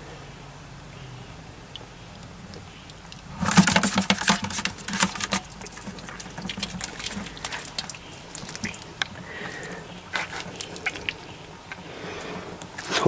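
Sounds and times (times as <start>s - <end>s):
squirrel scrabbling and clicking: 1.7s - 13.0s.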